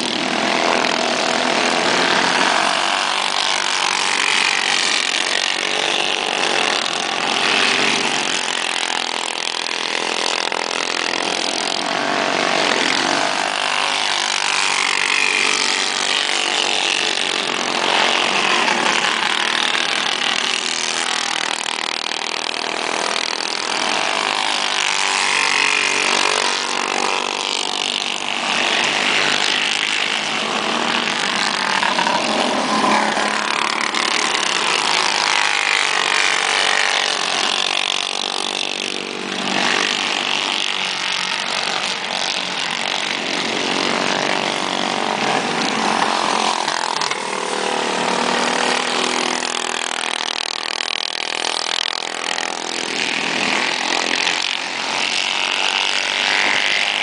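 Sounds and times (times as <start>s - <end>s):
go-kart engines buzzing: 0.0s - 57.0s.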